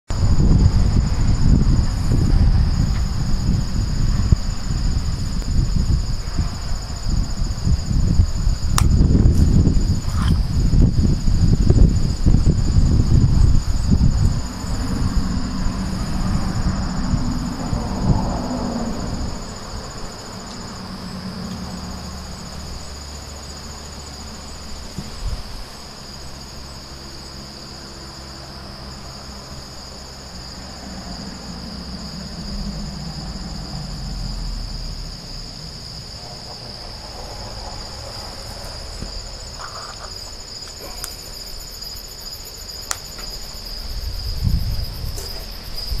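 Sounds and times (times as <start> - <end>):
low rumble: 0.1 - 25.6, 29.4 - 42.4
insects chirring: 0.1 - 46.0.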